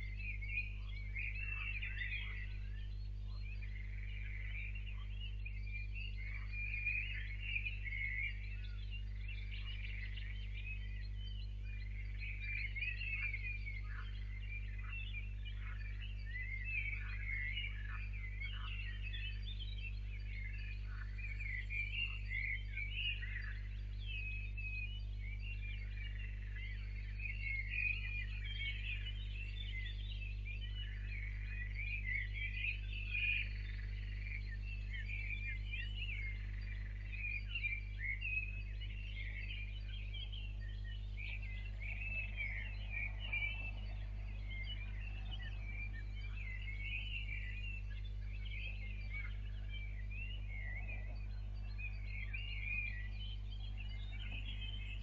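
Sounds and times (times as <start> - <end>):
low electrical hum: 0.0 - 55.0
small birds chirping: 0.0 - 55.0.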